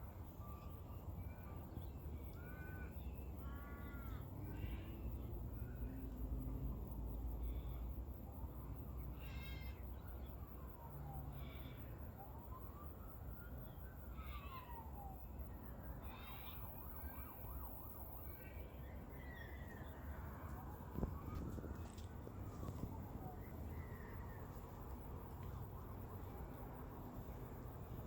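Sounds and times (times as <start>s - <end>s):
distant siren wailing: 0.0s - 28.0s
low traffic rumble: 0.0s - 28.0s.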